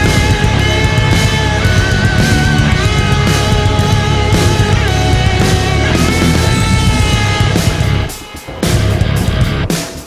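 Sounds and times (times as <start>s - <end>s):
loud rock music: 0.0s - 10.0s.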